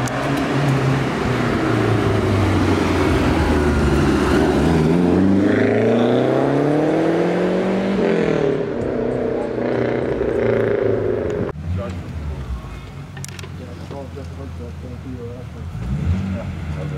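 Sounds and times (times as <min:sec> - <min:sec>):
car engine accelerating: 0:00.0 - 0:16.9.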